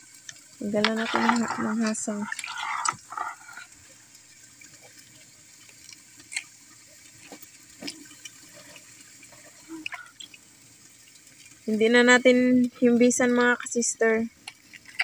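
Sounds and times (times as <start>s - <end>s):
water sloshing and dripping: 0.0s - 15.0s.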